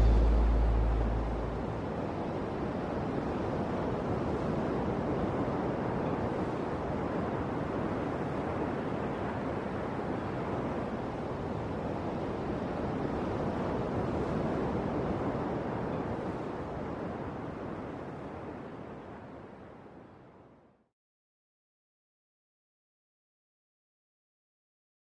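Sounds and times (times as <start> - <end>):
wind: 0.0 - 20.9.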